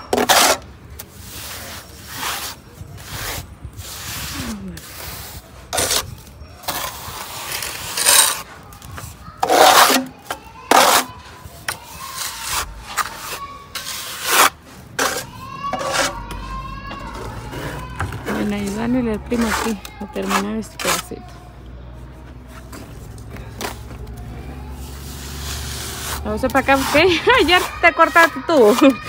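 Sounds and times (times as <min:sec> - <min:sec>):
trowel scraping mortar: 0:00.0 - 0:21.4, 0:22.6 - 0:29.0.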